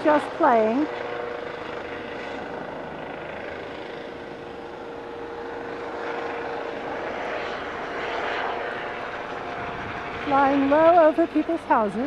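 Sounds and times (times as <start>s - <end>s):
helicopter rotor and turbine: 0.0s - 12.0s
helicopter whine: 0.0s - 12.0s.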